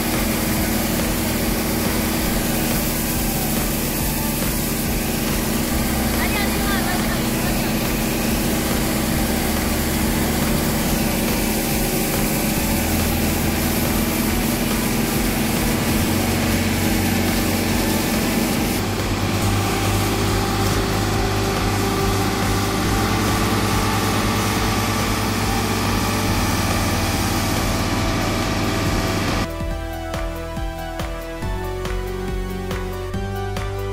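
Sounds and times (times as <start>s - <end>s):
grain pouring from auger: 0.0s - 29.5s
combine harvester running: 0.0s - 29.8s.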